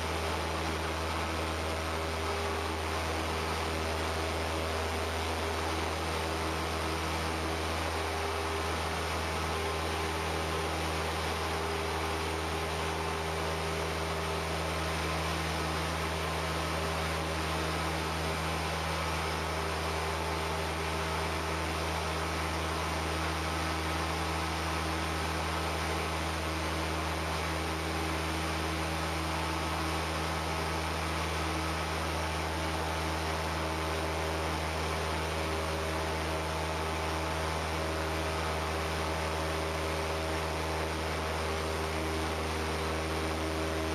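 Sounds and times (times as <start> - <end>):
airplane engine drone: 0.0 - 43.9.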